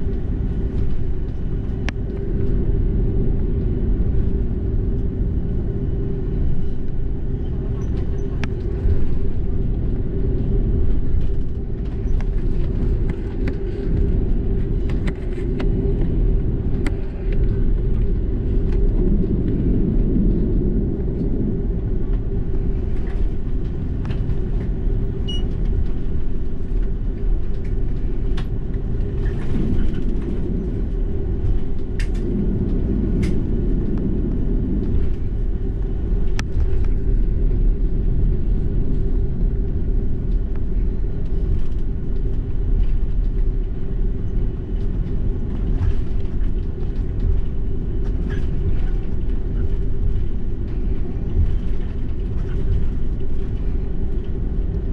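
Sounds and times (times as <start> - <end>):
airplane cabin rumble while taxiing: 0.0 - 54.9.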